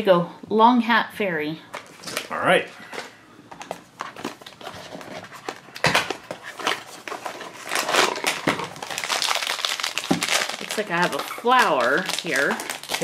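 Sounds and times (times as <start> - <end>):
foil wrapper crinkling: 1.8 - 13.0.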